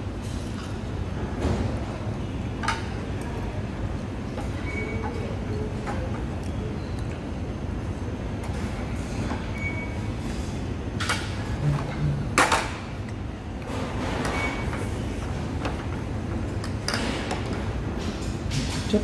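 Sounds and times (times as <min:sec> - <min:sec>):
busy dining room hum: 0:00.0 - 0:19.0.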